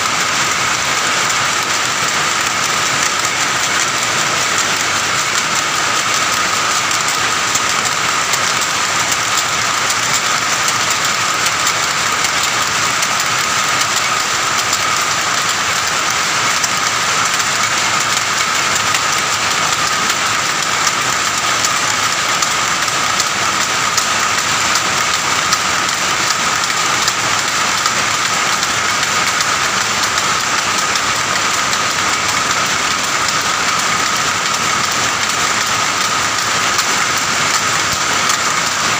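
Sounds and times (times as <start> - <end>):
power looms clattering: 0.0 - 38.9.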